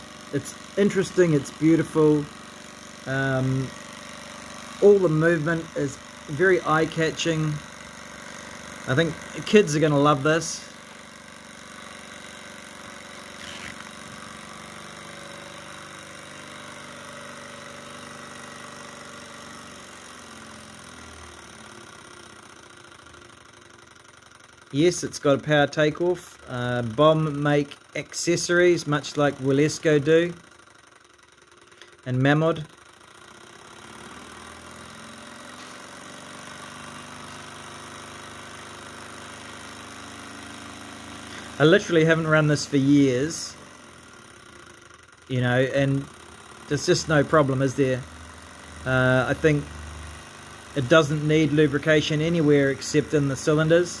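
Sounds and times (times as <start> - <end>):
model engine mechanical whir: 0.0 - 54.0.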